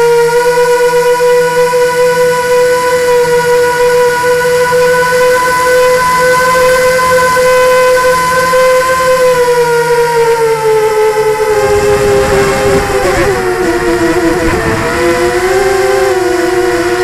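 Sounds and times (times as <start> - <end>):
drone propellers whining: 0.3 - 17.0.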